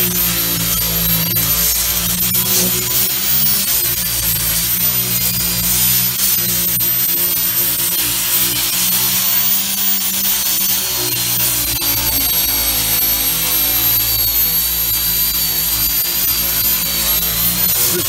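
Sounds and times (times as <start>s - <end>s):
rotary tool grinding rust off steel: 0.0s - 18.0s.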